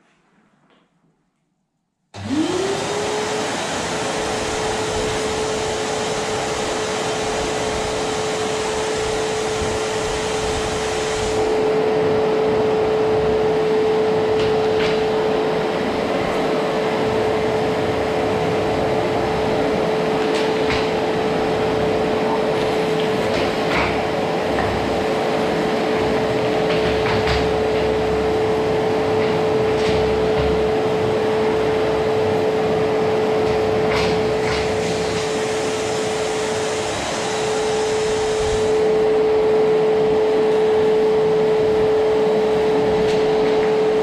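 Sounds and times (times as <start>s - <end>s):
vacuum cleaner motor whine: 2.2s - 44.0s.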